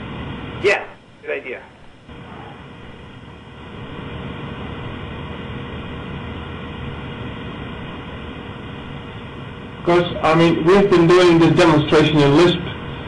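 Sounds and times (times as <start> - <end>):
microphone hiss and rumble: 0.0 - 13.0.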